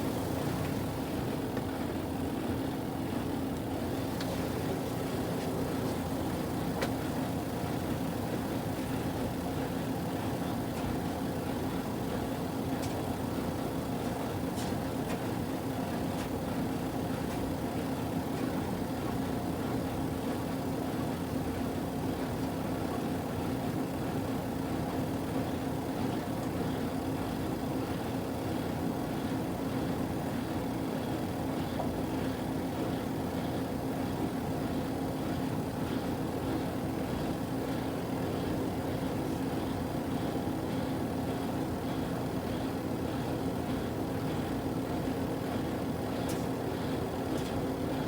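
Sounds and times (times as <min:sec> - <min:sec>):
washing machine motor hum: 0:00.0 - 0:48.0.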